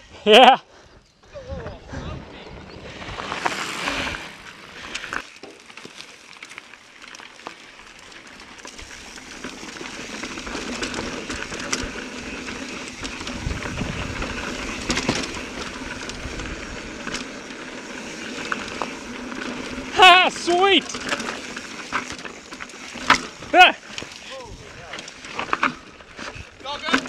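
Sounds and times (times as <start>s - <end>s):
bike tyres on rock and sand: 0.0s - 27.0s
bike rattling and knocking: 2.6s - 27.0s.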